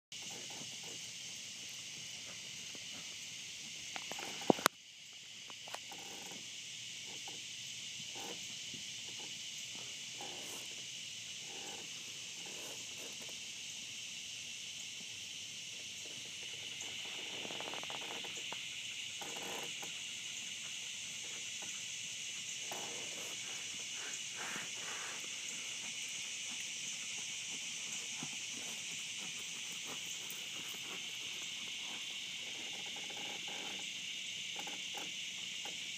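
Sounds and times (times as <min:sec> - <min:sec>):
crickets and insects chirping: 0:00.1 - 0:35.9.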